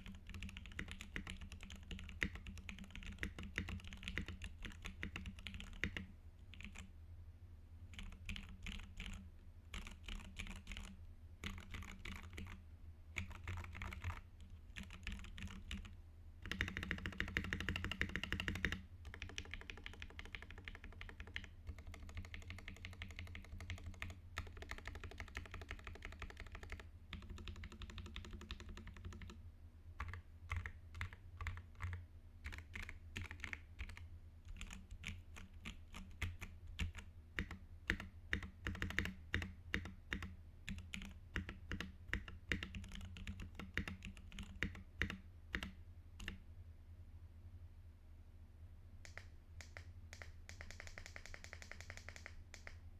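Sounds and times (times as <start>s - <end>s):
typing on mechanical keyboard: 0.0s - 6.9s, 7.9s - 12.6s, 13.2s - 29.4s, 30.0s - 46.4s, 49.0s - 52.8s.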